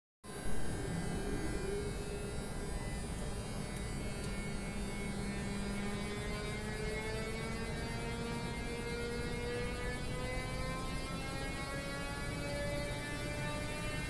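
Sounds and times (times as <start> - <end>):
electric locomotive motors humming: 0.3 - 14.0.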